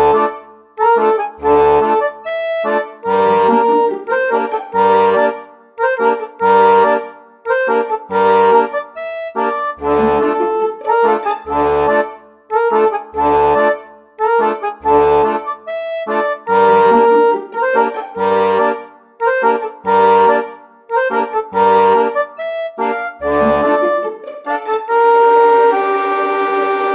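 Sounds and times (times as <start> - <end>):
lively instrumental music: 0.0 - 26.9.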